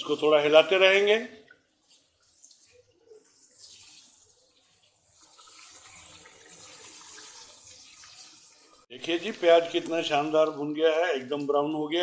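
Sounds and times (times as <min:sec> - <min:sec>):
onion frying in oil: 0:00.0 - 0:11.1.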